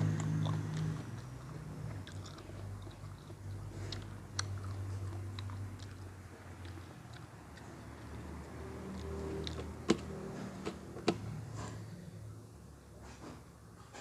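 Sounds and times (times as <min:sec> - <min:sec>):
person chewing food: 0:00.0 - 0:11.3
low steady hum: 0:00.0 - 0:14.0.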